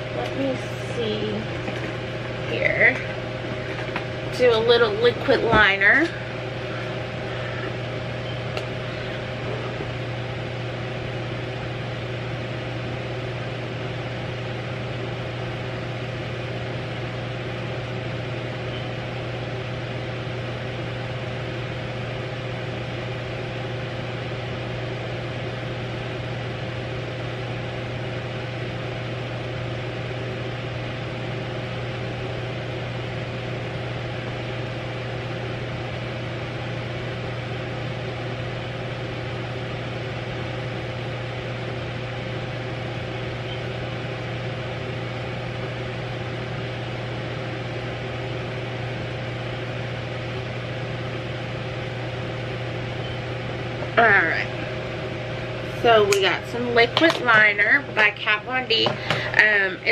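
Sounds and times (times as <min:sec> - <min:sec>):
steady low hum with hiss: 0:00.0 - 0:59.9.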